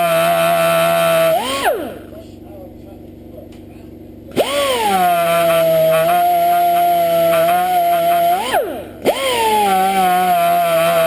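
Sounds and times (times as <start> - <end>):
air tool wire brush whine: 0.0 - 2.2, 4.3 - 11.0.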